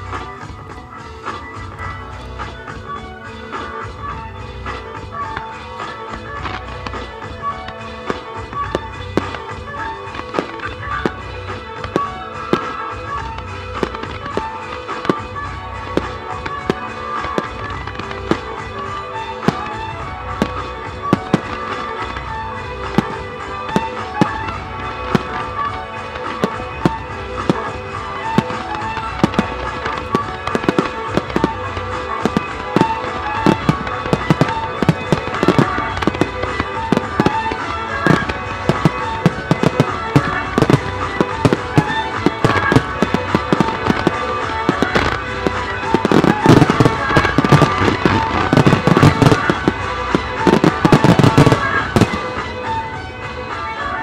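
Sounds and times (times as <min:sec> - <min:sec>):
fireworks bangs and crackling: 0:00.0 - 0:54.0
music playing: 0:00.0 - 0:54.0.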